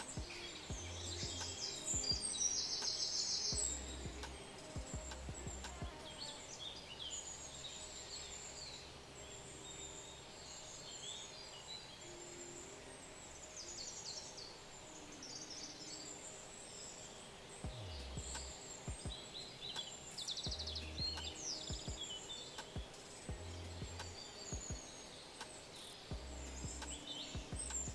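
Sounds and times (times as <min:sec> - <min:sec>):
faint outdoor noise: 0:00.0 - 0:27.9
small birds chirping and trilling: 0:00.0 - 0:27.9.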